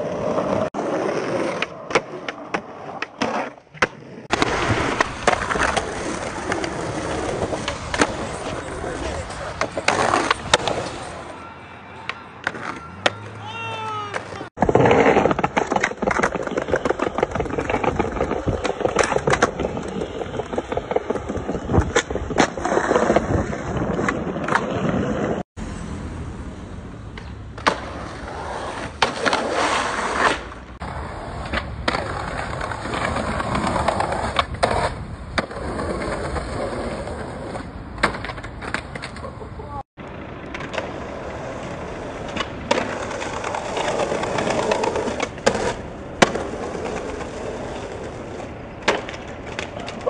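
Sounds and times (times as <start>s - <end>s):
skateboard wheels rolling on concrete: 0.0s - 50.0s
skateboard clacking on ground: 1.2s - 25.0s, 27.1s - 50.0s.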